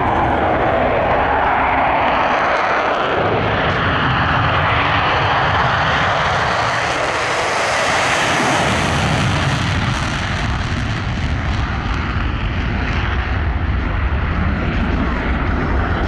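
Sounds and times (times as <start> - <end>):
jet engine afterburner roar: 0.0 - 16.0.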